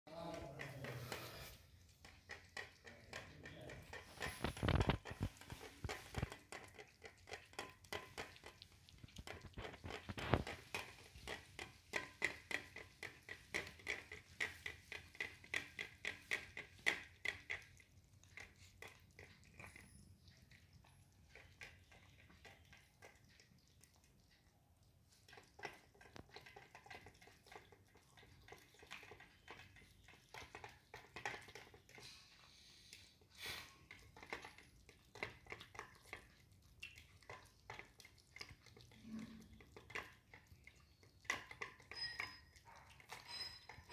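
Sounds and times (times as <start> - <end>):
kittens eating wet smacking: 0.1 - 43.9.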